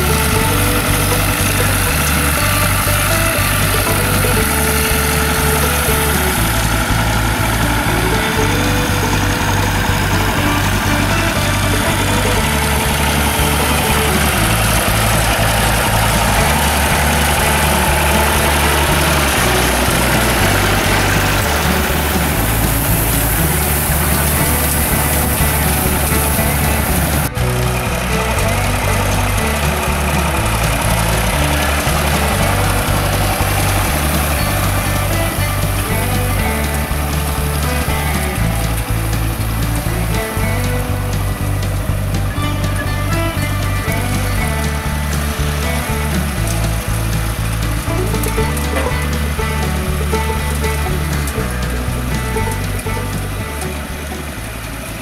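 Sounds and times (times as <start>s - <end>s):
background music with bass line: 0.0s - 55.0s
tractor engine running: 0.0s - 55.0s.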